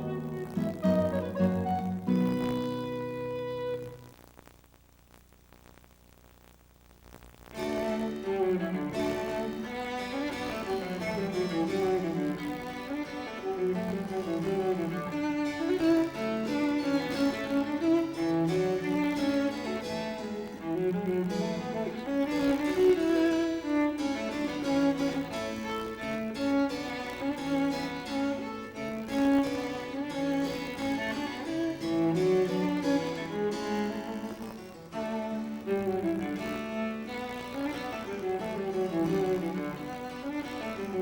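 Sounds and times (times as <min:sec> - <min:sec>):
slow bowed string music: 0:00.0 - 0:04.0, 0:07.6 - 0:41.0.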